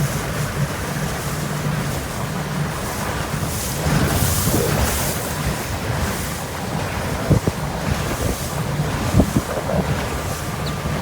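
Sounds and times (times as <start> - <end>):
motorboat engine hum: 0.0 - 11.0
rushing water: 0.0 - 11.0
wind buffeting microphone: 0.0 - 11.0.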